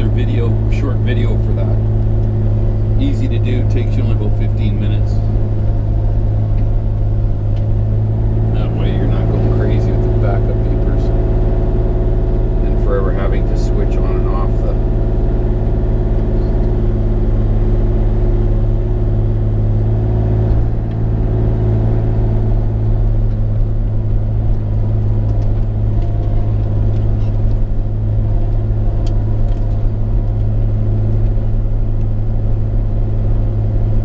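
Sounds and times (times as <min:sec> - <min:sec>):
excavator diesel engine humming: 0:00.0 - 0:34.0.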